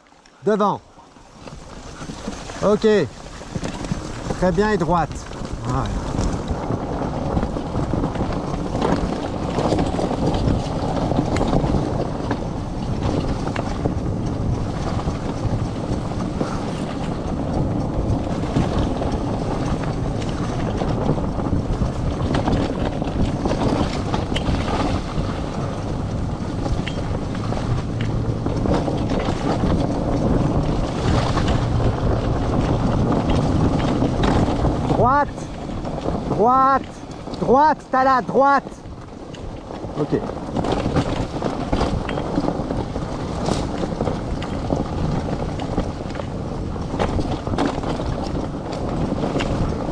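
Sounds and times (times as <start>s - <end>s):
cart tyres rolling over dirt: 0.0s - 49.9s
wind on microphone: 0.0s - 49.9s.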